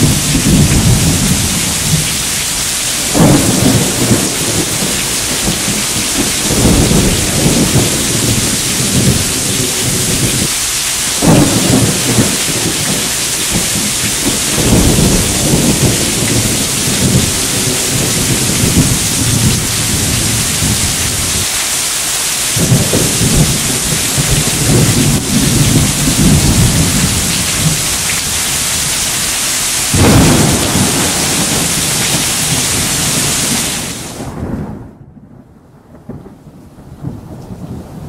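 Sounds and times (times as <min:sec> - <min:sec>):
thunder rumbling: 0:00.0 - 0:21.5, 0:22.4 - 0:38.0
heavy rain hissing: 0:00.0 - 0:34.6
sharp thunder clap: 0:03.0 - 0:10.5, 0:11.1 - 0:21.4, 0:22.6 - 0:28.5, 0:29.9 - 0:38.0.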